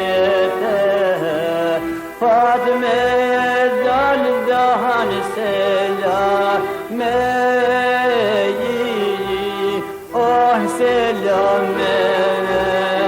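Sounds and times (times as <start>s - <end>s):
instrumental backing: 0.0s - 13.0s
person singing folk song: 0.0s - 13.0s.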